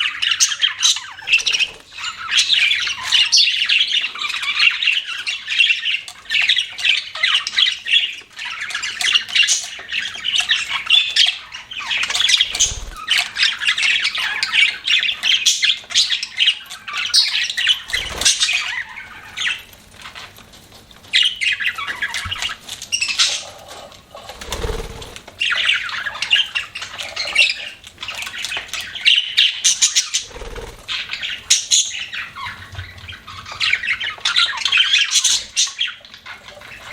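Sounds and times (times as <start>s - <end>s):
budgerigars chattering and chirping: 0.0s - 20.4s, 21.1s - 36.9s.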